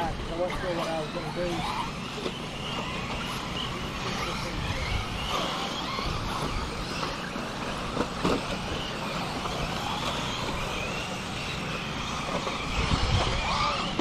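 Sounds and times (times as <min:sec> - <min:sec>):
rc car motors whining: 0:00.0 - 0:14.0.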